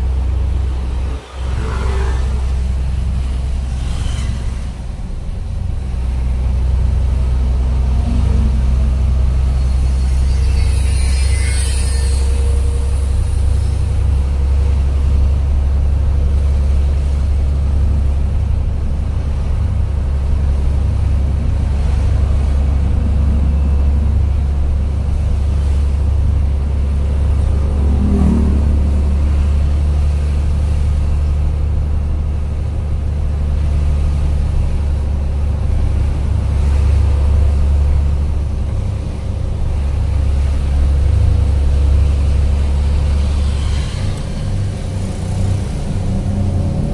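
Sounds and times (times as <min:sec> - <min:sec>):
road noise: 0:00.0 - 0:46.9
truck engine drone: 0:00.0 - 0:46.9.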